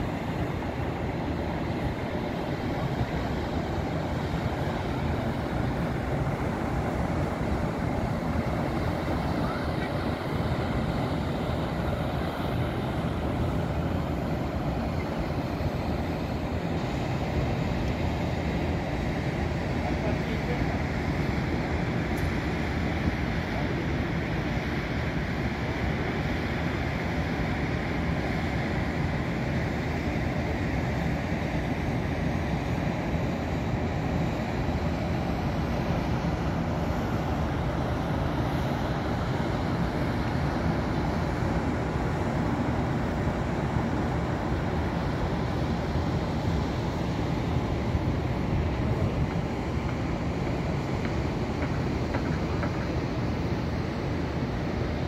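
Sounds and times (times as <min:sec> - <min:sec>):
distant city traffic rumble: 0:00.0 - 0:55.0.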